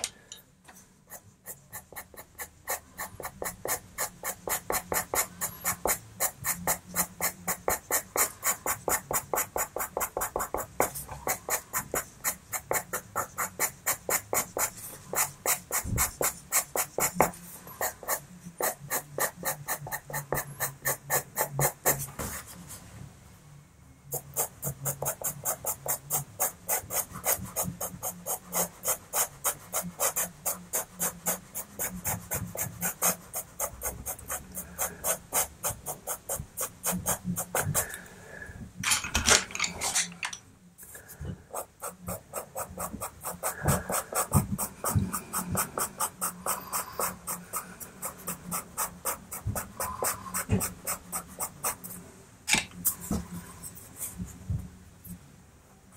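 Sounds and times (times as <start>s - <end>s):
pencil scratching on paper: 1.1s - 22.8s, 24.1s - 38.0s, 41.0s - 52.0s.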